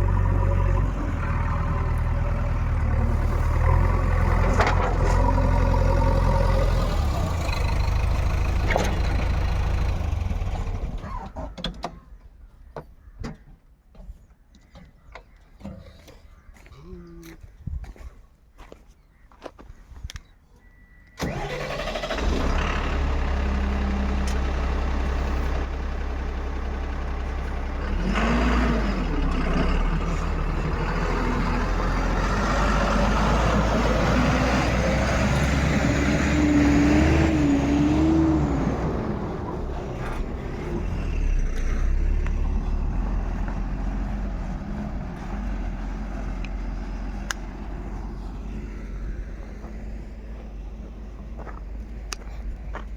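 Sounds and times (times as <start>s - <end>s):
heavy diesel engine running: 0.0s - 11.0s, 21.2s - 52.9s.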